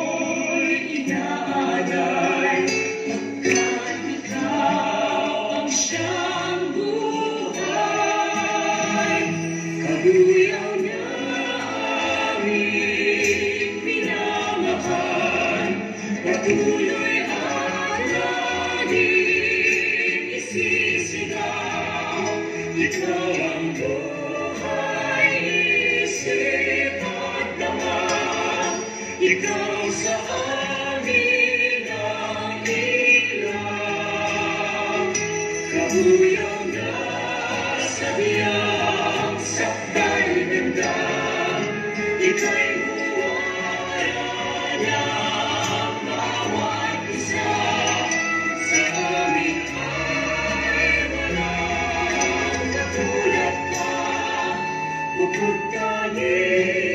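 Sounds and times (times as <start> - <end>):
choir singing a hymn: 0.0 - 56.9
musical accompaniment: 0.0 - 56.9.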